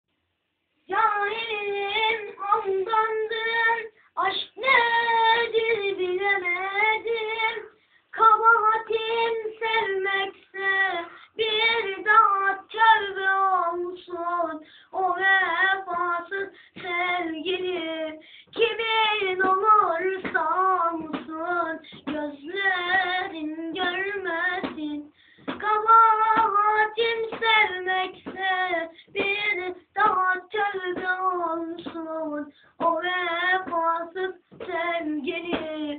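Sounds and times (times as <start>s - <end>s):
boy singing solo: 0.9s - 35.9s.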